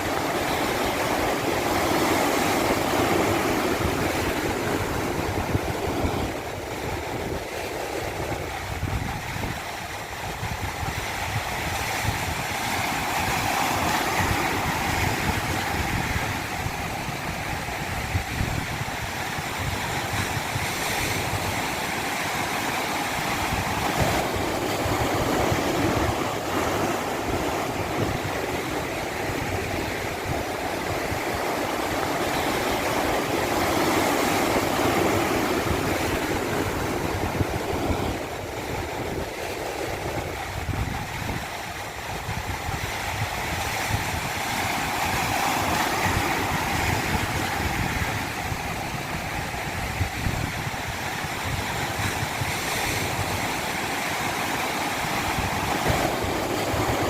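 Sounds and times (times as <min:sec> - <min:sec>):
stream cascade rushing: 0:00.0 - 0:57.0.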